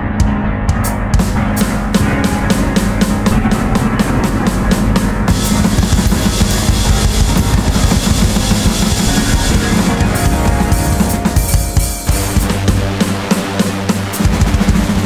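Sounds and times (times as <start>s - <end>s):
low sustained keyboard tones: 0.0s - 13.8s
electronic drum kit hits: 0.0s - 15.0s
synth noise: 0.0s - 15.0s.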